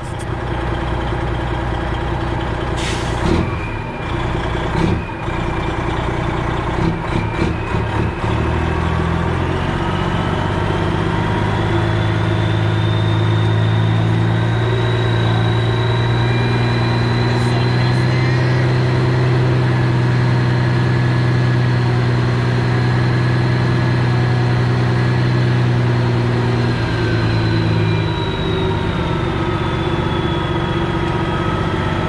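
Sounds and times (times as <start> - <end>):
truck diesel engine running: 0.0 - 32.0.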